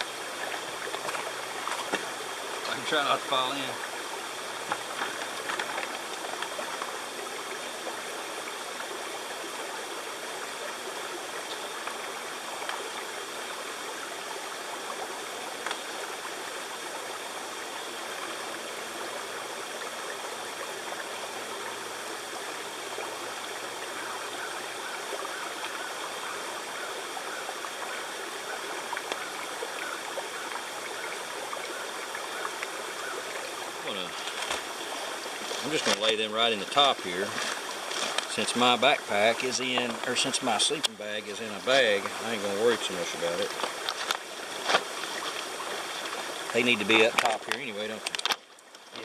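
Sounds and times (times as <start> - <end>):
creek water flowing: 0.0 - 49.0.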